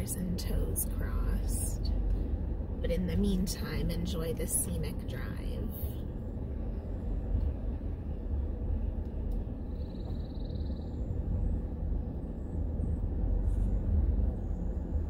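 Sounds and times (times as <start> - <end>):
vehicle driving low rumble: 0.0 - 15.0.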